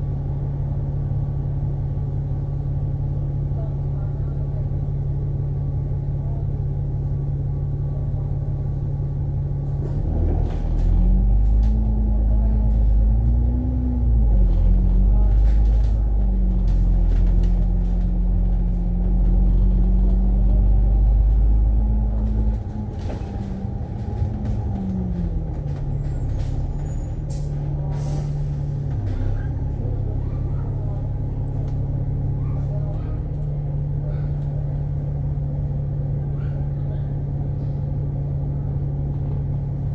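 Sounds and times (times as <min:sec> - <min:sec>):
bus engine: 0:00.0 - 0:39.9.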